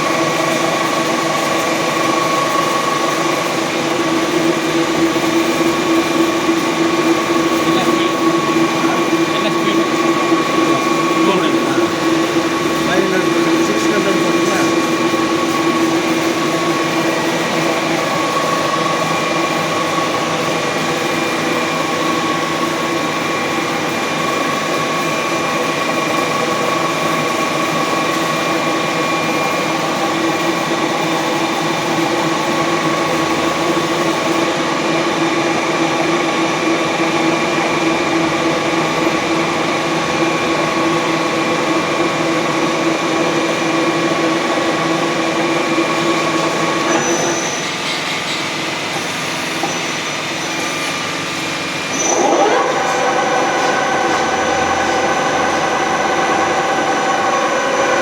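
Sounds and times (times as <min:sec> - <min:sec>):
boring machine humming and whining: 0:00.0 - 0:58.0.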